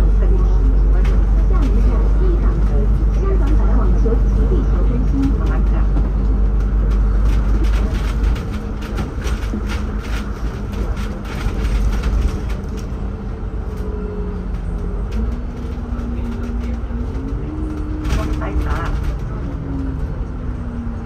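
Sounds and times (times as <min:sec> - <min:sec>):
bus engine and road rumble: 0:00.0 - 0:21.0
rattles and clicks from bus body: 0:00.0 - 0:21.0.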